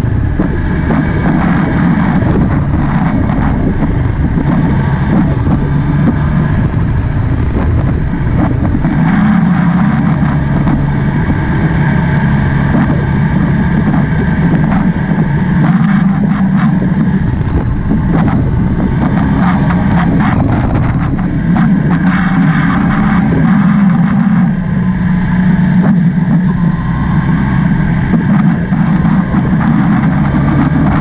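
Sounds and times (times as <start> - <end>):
motorcycle engine running: 0.0 - 31.0
road noise: 0.0 - 31.0
wind noise: 0.0 - 31.0.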